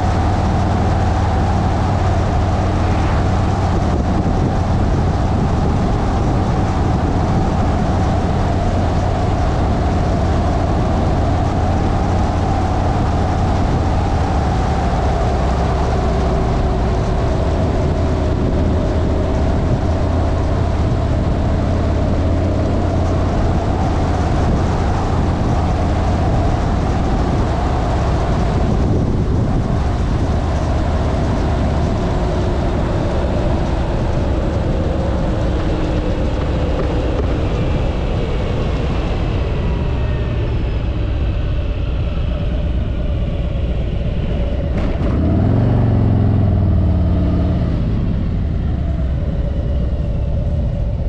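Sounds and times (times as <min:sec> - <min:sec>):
road and wind rumble: 0:00.0 - 0:51.0
vehicle engine running: 0:00.0 - 0:51.0.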